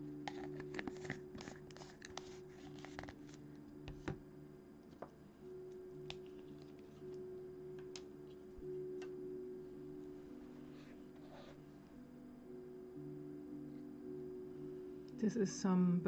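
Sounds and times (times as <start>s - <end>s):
soft background music chords: 0.0s - 16.0s.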